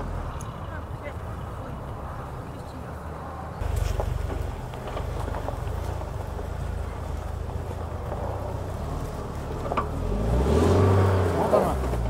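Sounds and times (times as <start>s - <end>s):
suv engine rumbling: 0.0s - 12.0s.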